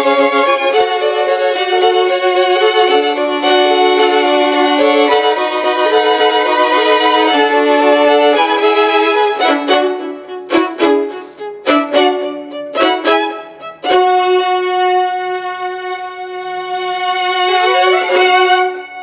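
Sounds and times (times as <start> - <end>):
violin music: 0.0 - 19.0.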